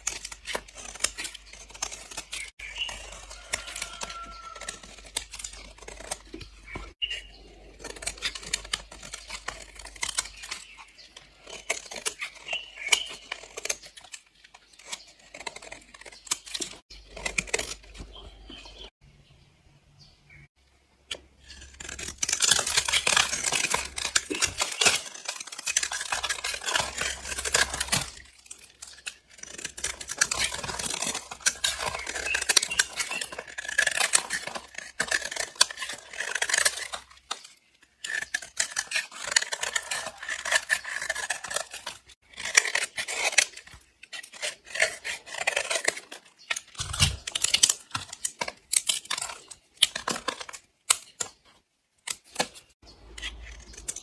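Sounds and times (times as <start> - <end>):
blade slicing soap: 0.0 - 18.9, 21.1 - 51.4.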